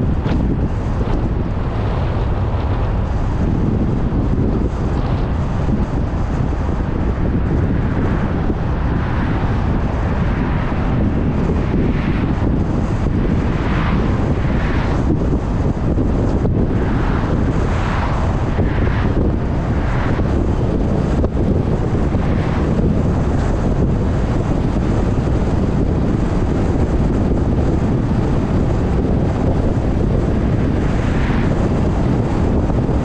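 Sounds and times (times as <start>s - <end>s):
car road noise at speed: 0.0s - 33.0s
wind rushing over microphone: 0.0s - 33.0s.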